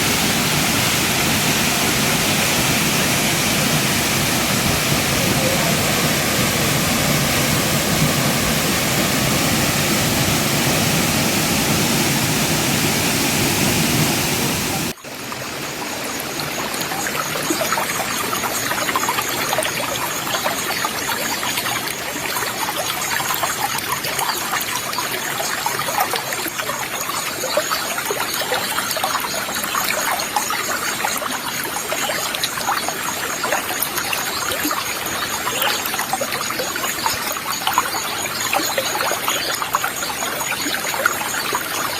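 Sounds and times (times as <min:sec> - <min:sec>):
waterfall rushing: 0:00.0 - 0:23.5, 0:26.2 - 0:41.9
stream water trickling: 0:00.0 - 0:41.9.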